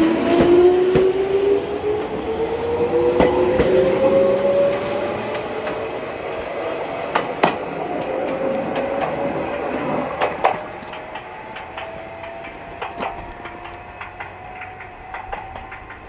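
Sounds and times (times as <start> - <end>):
train wheels clacking over rail joints: 0.0 - 2.2, 2.8 - 16.0.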